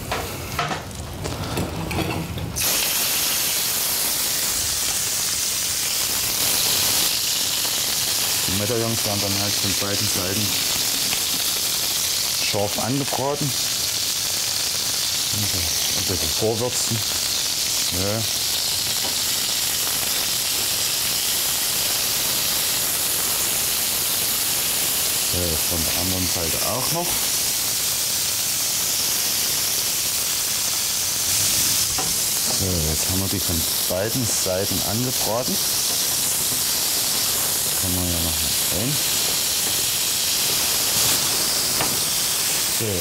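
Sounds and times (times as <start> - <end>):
meat sizzling in a frying pan: 0.0 - 43.0.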